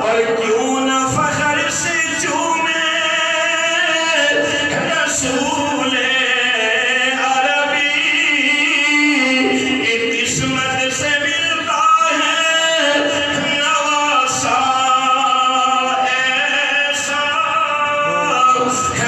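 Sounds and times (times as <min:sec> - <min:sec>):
man chanting into a microphone: 0:00.0 - 0:19.0.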